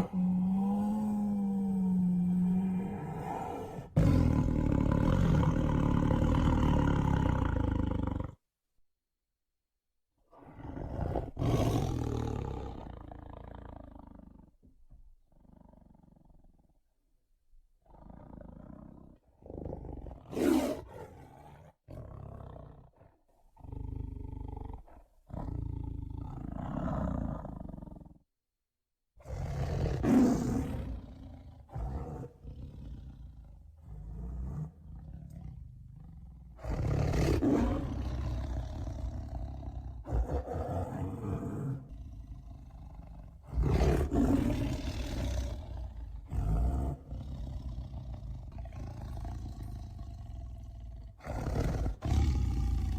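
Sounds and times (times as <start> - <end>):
tiger growling and roaring: 0.0 - 8.4, 10.3 - 14.6, 15.3 - 16.7, 17.8 - 28.2, 29.2 - 52.9.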